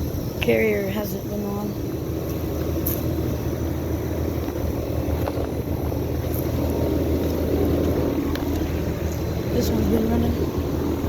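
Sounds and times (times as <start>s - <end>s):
compressor hum: 0.0s - 11.0s
condenser fans whooshing: 0.0s - 11.0s.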